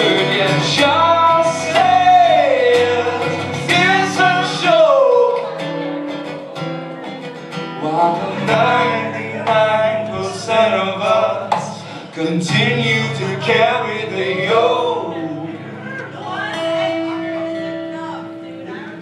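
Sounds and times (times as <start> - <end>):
man singing: 0.0 - 15.9
guitar: 0.0 - 19.0.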